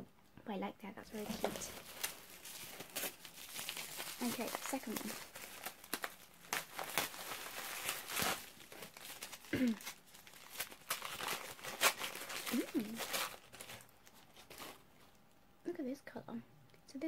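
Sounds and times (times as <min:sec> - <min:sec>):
packaging crinkling and rustling: 0:01.1 - 0:15.2.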